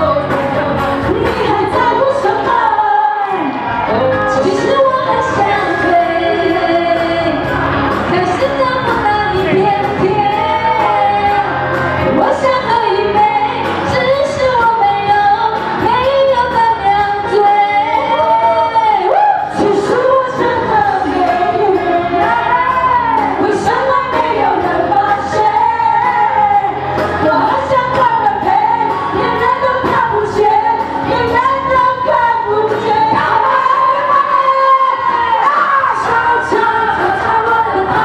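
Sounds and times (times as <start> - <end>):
backing music: 0.0 - 38.0
woman singing pop song: 0.0 - 38.0.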